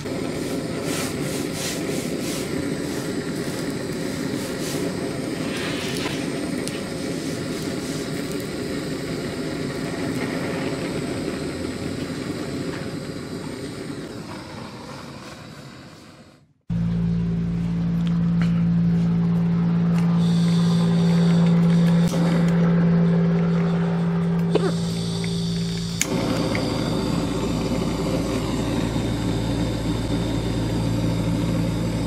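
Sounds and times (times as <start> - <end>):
gas torch flame roaring: 0.0 - 32.0.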